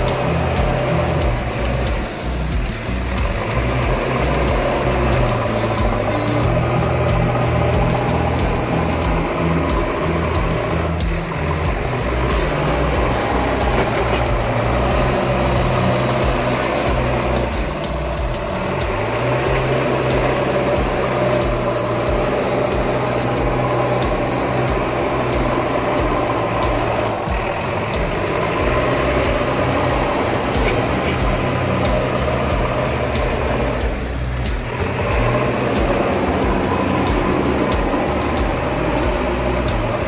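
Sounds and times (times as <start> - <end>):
tractor diesel engine: 0.0 - 40.0.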